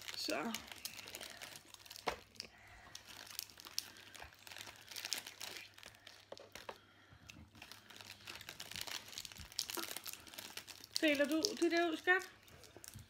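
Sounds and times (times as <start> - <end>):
plastic packaging crinkling: 0.0 - 6.8, 7.4 - 13.0.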